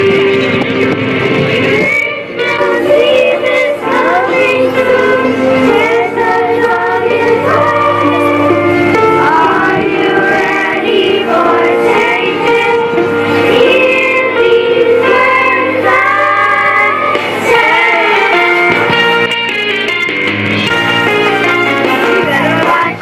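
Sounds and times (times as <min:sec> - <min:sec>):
musical accompaniment: 0:00.0 - 0:23.0
children's choir singing: 0:01.5 - 0:19.3, 0:21.8 - 0:23.0.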